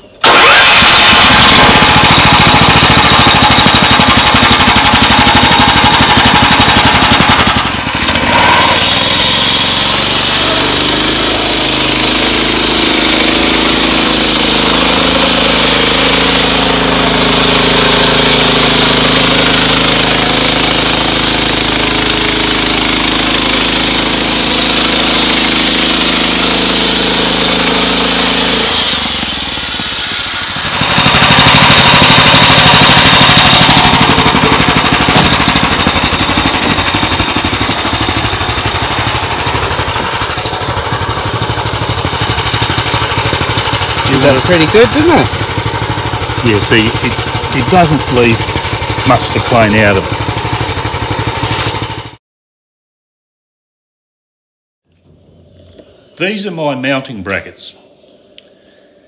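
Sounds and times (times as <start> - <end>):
sawmill blade ripping log: 0.2 - 52.1.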